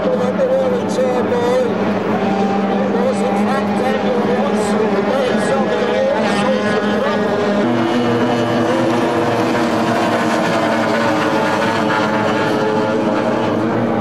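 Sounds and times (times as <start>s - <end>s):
racing boat engines: 0.0s - 14.0s.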